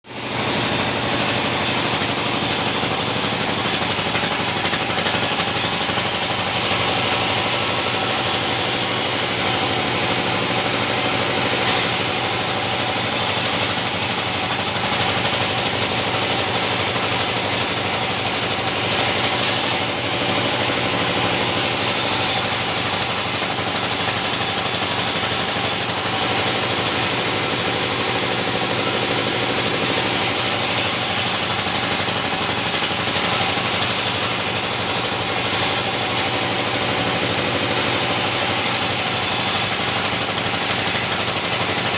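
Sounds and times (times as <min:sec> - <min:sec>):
band saw cutting timber: 0:00.0 - 0:41.9.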